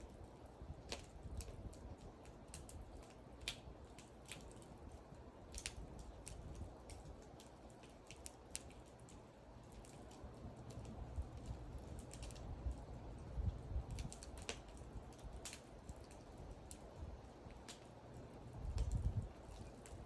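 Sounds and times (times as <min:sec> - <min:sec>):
low rumble of burning: 0:00.0 - 0:20.0
wood fire crackling and popping: 0:00.0 - 0:20.0.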